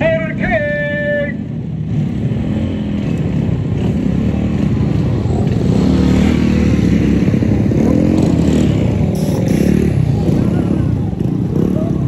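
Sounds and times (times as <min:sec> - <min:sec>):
small motorcycles riding past: 0:01.8 - 0:12.0.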